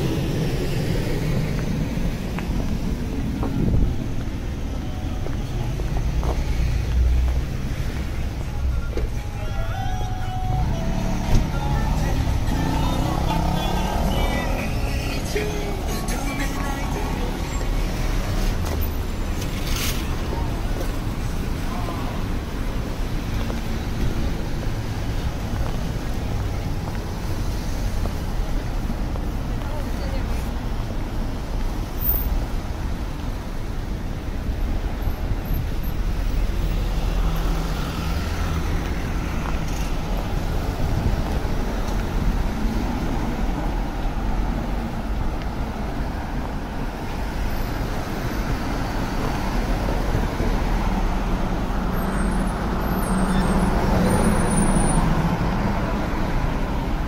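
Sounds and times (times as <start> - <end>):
road traffic noise: 0.0 - 57.0.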